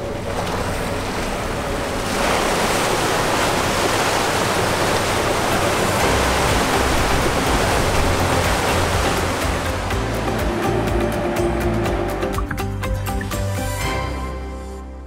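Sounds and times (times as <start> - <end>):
water rushing along boat hull: 0.0 - 14.3.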